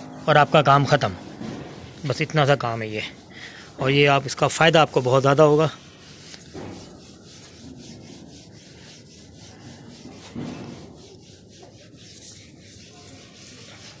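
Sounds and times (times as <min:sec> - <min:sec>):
scouring pad rubbing on glass: 0:00.0 - 0:14.0.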